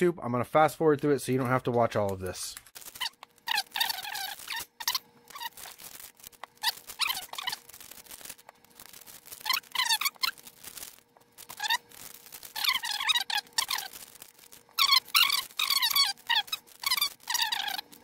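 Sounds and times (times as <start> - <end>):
card pack wrappers tearing: 1.0 - 18.0.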